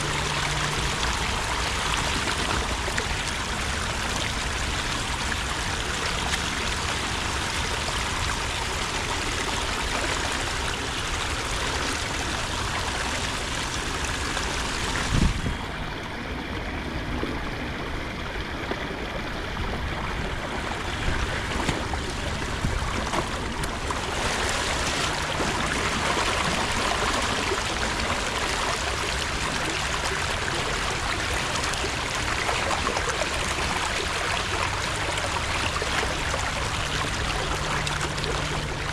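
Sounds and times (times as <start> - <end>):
water rushing and trickling: 0.0 - 38.9.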